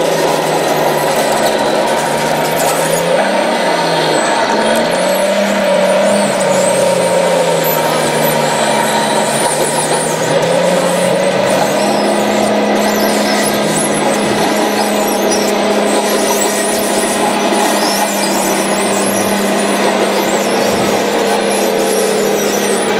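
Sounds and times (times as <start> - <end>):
toy bulldozer driving on tracks: 0.0 - 22.9.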